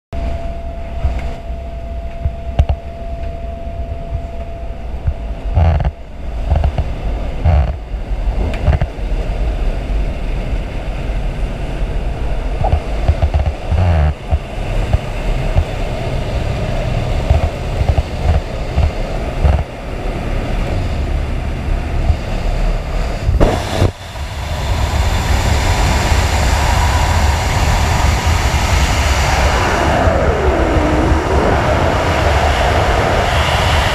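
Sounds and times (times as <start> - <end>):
rush of freefall wind: 0.2 - 33.9
aircraft engine and propeller drone: 2.0 - 33.9.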